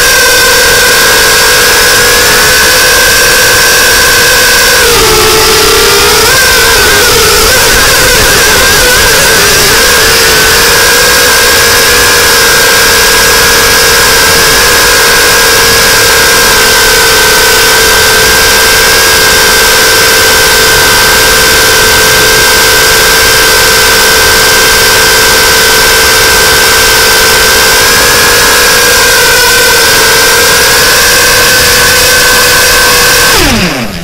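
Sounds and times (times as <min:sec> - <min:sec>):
drone propellers whining: 0:00.0 - 0:34.0.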